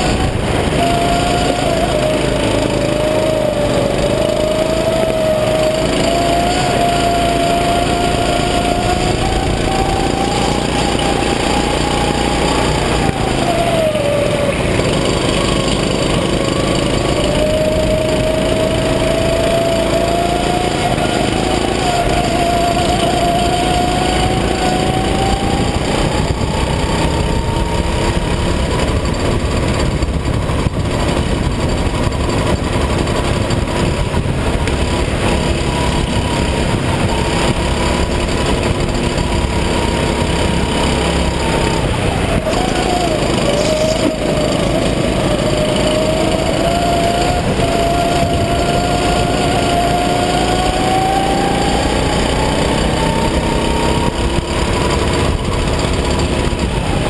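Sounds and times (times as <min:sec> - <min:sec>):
go-kart engine at high revs: 0:00.0 - 0:57.0
road noise: 0:00.0 - 0:57.0
wind noise: 0:00.0 - 0:57.0.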